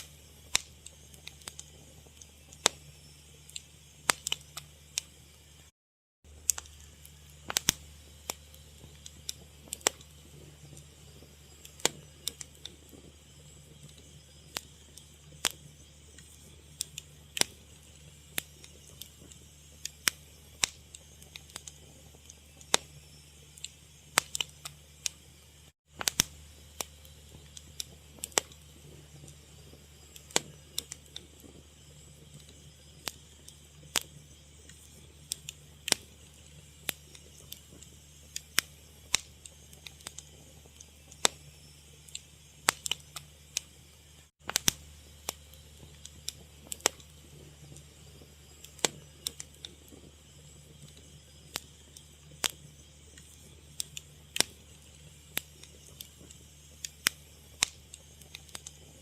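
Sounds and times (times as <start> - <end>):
fire crackling and popping: 0.0 - 5.7, 6.3 - 59.0.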